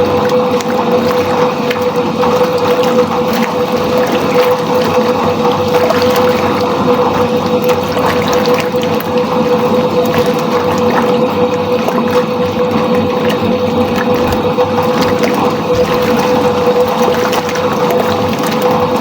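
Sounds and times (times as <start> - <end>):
washing machine motor hum: 0.0 - 19.0
water churning and sloshing: 0.0 - 19.0.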